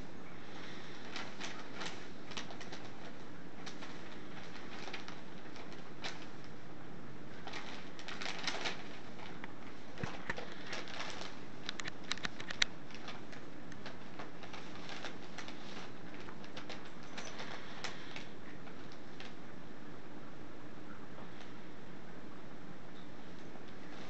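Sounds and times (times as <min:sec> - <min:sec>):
paper rustling and crackling: 0:00.0 - 0:19.6, 0:23.2 - 0:24.0.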